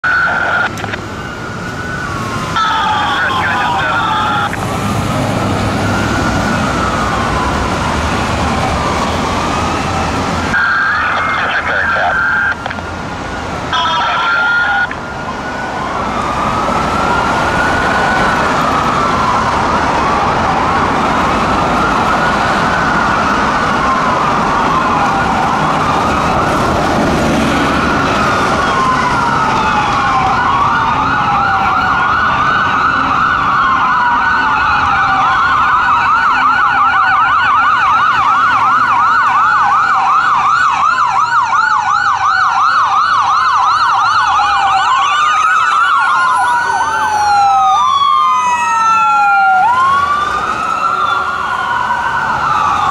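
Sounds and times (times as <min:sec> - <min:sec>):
fast siren yelp: 0:00.0 - 0:52.9
fire truck siren wailing: 0:00.0 - 0:52.9
traffic noise: 0:00.0 - 0:52.9.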